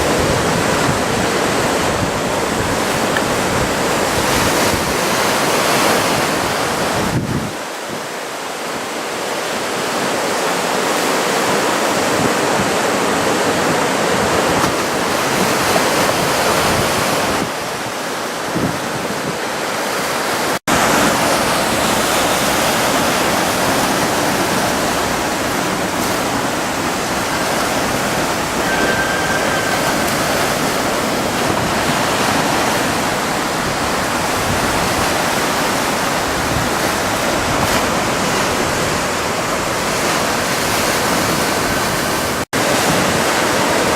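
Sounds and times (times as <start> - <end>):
ocean surf breaking on shore: 0.0 - 43.9.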